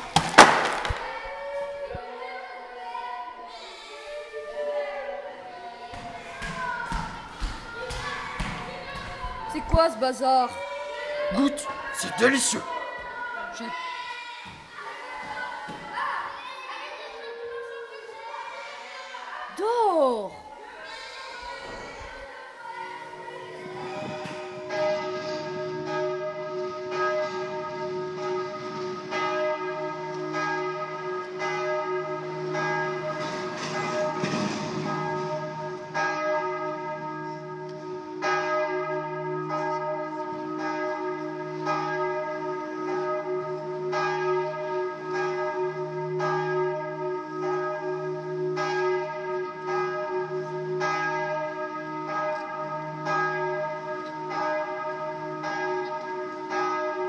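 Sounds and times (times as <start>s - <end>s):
church bells ringing: 0.0s - 14.1s, 15.9s - 57.0s.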